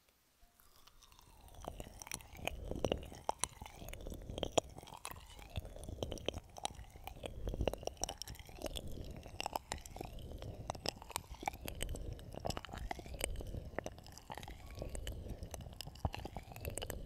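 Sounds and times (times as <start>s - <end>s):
crackling clicks and knocks: 0.0s - 17.0s.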